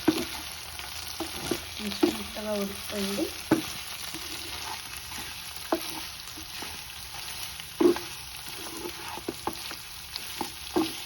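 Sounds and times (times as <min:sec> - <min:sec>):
chicken sizzling in oil: 0:00.0 - 0:11.0
spatula scraping and knocking pan: 0:00.0 - 0:11.0.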